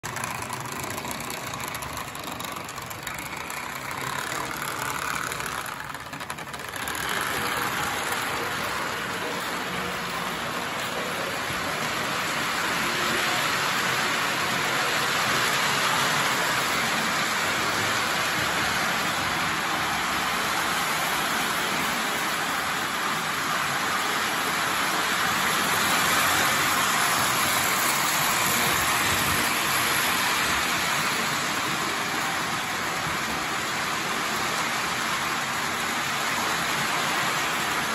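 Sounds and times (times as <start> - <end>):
metal wheels rattling on track: 0.0 - 37.9
toy train electric motor whir: 0.0 - 37.9.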